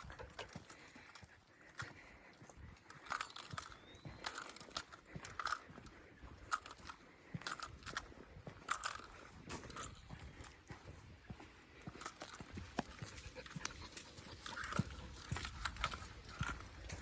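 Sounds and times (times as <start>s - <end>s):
footsteps crunching on dry trail: 0.0s - 17.0s.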